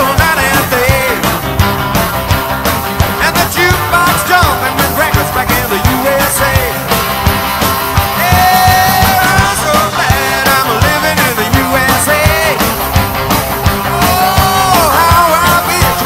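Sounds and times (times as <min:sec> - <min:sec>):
rock and roll band playing live: 0:00.0 - 0:16.0.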